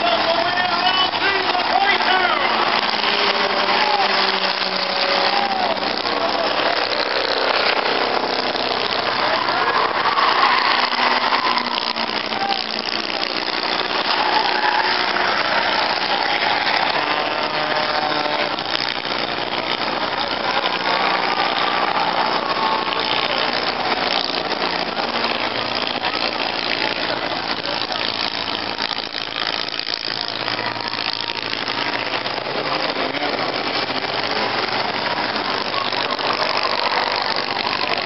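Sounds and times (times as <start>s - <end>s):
race car engines passing: 0.0s - 38.0s.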